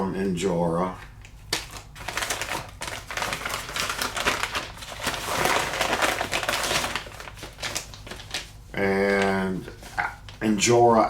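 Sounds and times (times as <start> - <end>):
plastic packaging crinkling: 1.1 - 10.4.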